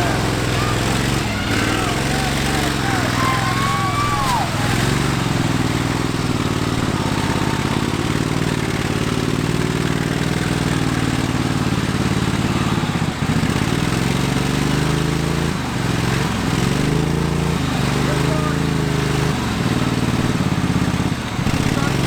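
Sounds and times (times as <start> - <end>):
lawn tractor engine revving: 0.0 - 22.0.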